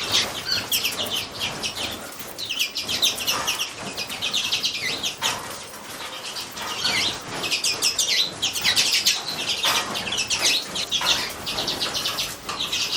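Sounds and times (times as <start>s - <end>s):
small birds chirping rapidly: 0.0s - 12.9s.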